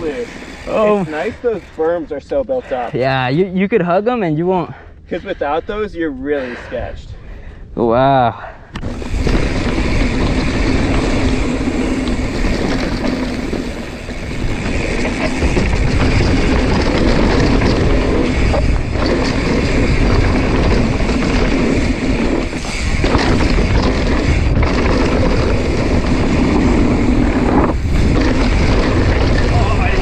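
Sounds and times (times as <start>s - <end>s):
tyres rolling on packed dirt: 0.0s - 4.5s, 8.8s - 30.0s
wind rushing over microphone: 5.4s - 30.0s.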